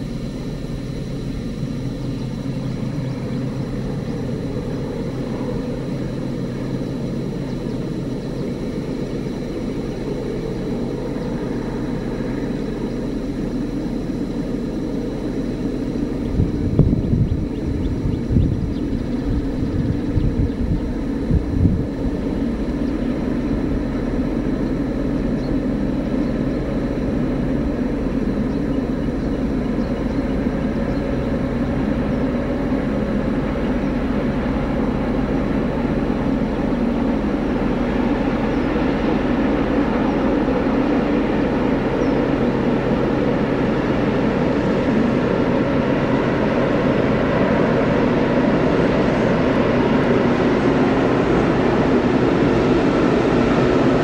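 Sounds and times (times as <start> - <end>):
vehicle running rumble and hum: 0.0 - 54.0.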